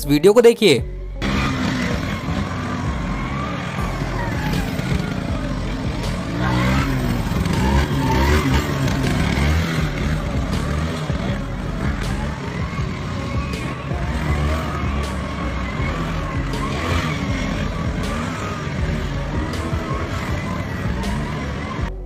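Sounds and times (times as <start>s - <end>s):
motor scooter engine running: 1.2s - 22.0s.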